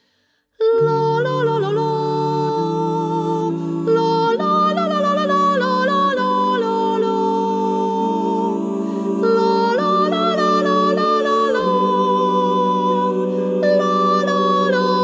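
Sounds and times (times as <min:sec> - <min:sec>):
a cappella choir singing: 0:00.6 - 0:15.0.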